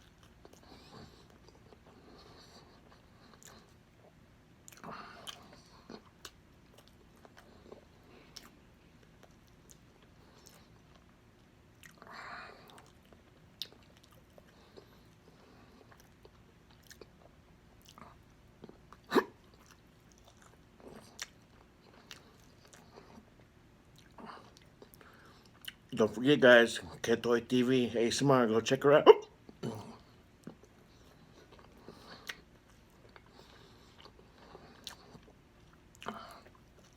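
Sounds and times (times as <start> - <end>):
close-miked chewing: 0.0 - 27.1, 29.1 - 36.9.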